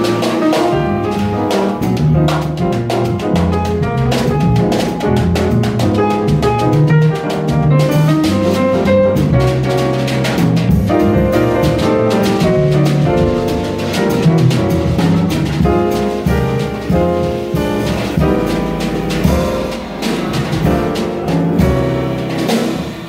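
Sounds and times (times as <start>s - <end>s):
drum kit with cymbals: 0.0s - 23.0s
grand piano: 0.0s - 23.0s
plucked double bass: 0.0s - 23.0s.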